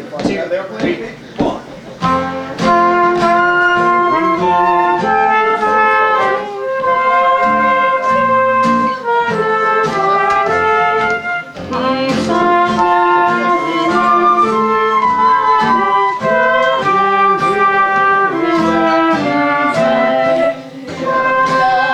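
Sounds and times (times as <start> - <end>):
guitar accompaniment: 0.0 - 21.9
brass horn melody: 2.0 - 21.9.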